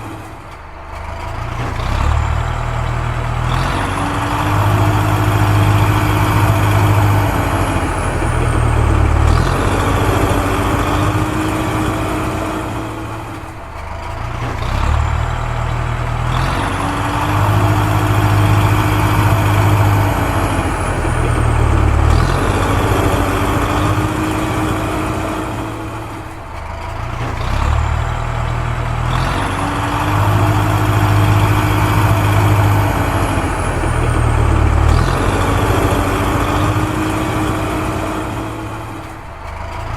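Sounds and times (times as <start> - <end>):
heavy machine engine: 0.0 - 39.9.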